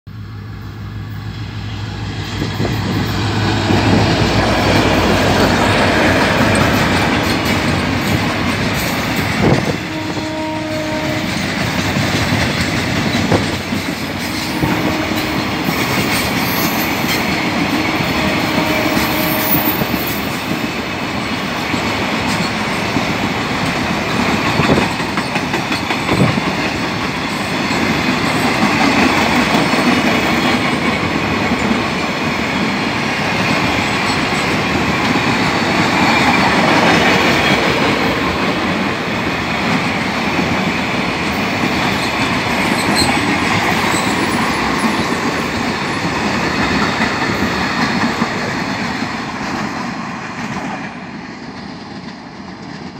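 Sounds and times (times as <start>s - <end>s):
diesel locomotive engine drone: 0.1s - 52.9s
train wheels rumbling on rails: 0.1s - 52.9s
clacks at rail joints: 2.3s - 20.7s, 21.3s - 32.2s, 39.6s - 52.9s.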